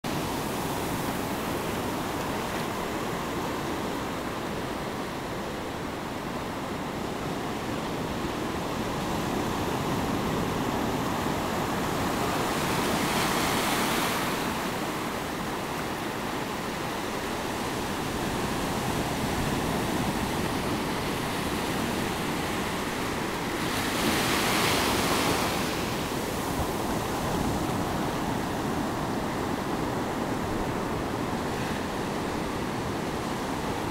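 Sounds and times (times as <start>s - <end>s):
ocean surf on beach: 0.1s - 33.9s.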